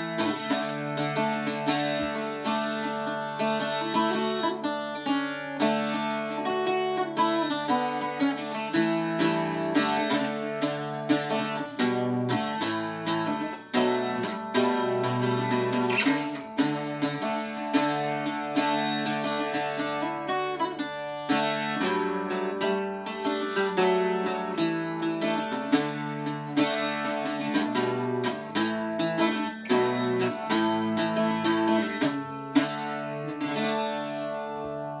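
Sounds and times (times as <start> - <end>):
bouzouki strummed with a pick: 0.0 - 35.0.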